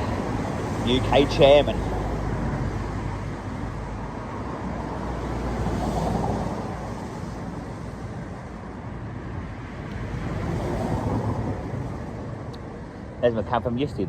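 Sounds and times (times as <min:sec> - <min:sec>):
cars passing on busy road: 0:00.0 - 0:14.0.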